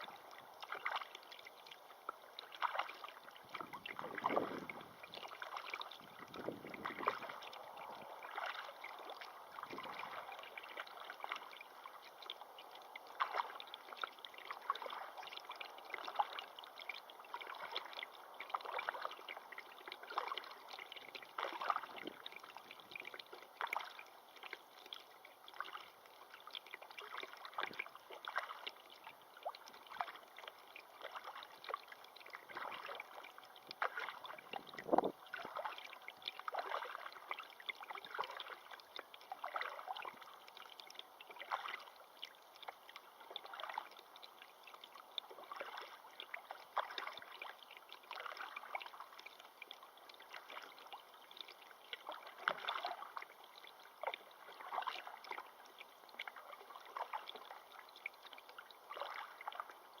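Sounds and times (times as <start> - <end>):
river water lapping and gurgling: 0.0 - 60.0.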